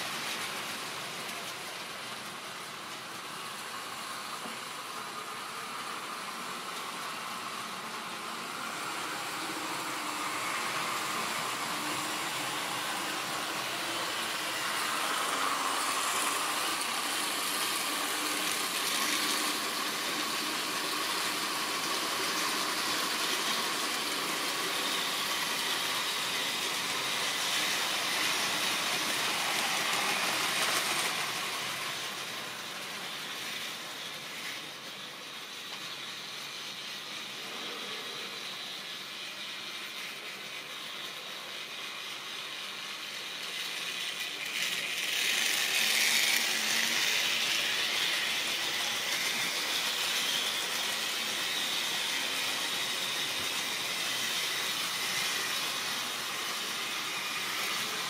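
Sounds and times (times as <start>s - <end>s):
model train motors whirring: 0.0s - 58.0s
wagon wheels on track: 0.0s - 58.0s.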